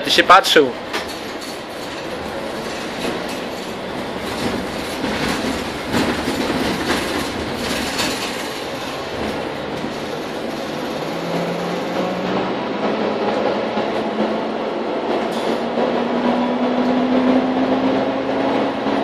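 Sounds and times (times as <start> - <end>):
bus engine and road noise: 0.0 - 19.0
knocks and rattles of bus body: 0.4 - 19.0.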